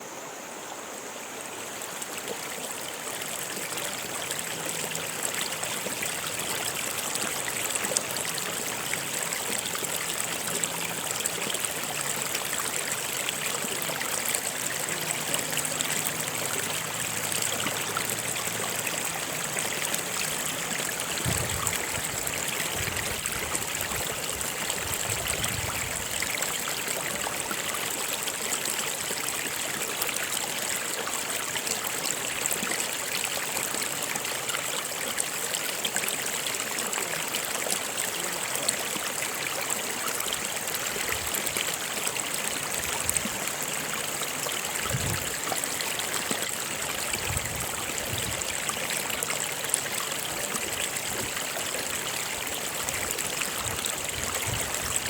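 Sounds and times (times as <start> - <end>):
stream water running over rocks: 0.0 - 55.0.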